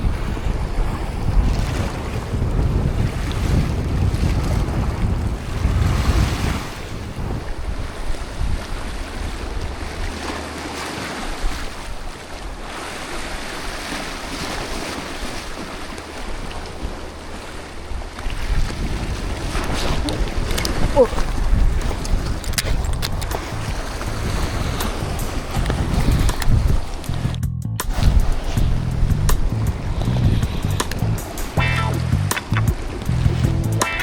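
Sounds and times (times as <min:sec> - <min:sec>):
surf washing against rocks: 0:00.0 - 0:34.0
wind buffeting microphone: 0:00.0 - 0:34.0.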